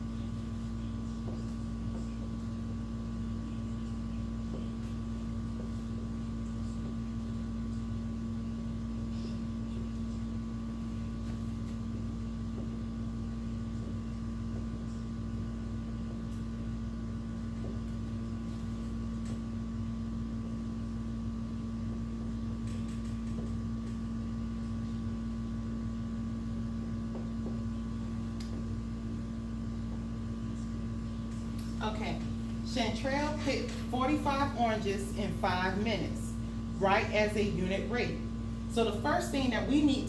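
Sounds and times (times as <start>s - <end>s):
room hum with low drone: 0.0s - 40.0s.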